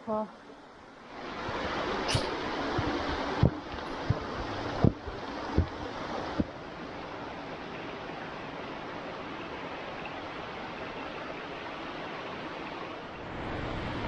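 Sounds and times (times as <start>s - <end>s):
brook flowing over rocks: 1.1s - 13.4s.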